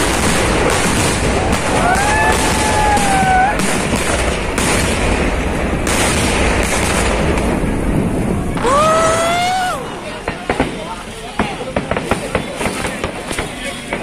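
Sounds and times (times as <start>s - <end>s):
fireworks bangs and crackle: 0.0s - 14.0s.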